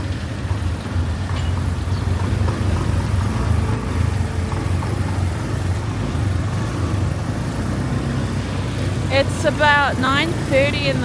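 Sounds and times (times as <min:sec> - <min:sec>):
scooter engine and road noise: 0:00.0 - 0:11.0.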